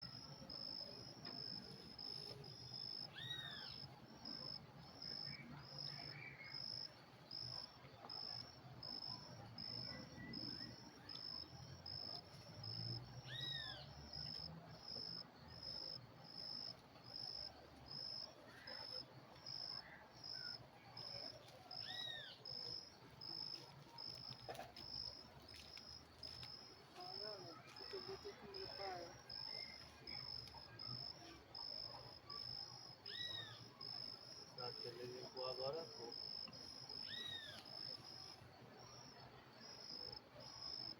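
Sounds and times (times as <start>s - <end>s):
insect chirping: 0.0s - 40.9s.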